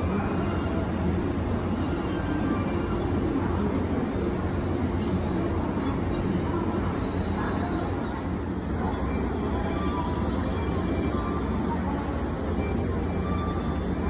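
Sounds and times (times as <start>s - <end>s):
low hum and rumble of train: 0.0s - 14.0s.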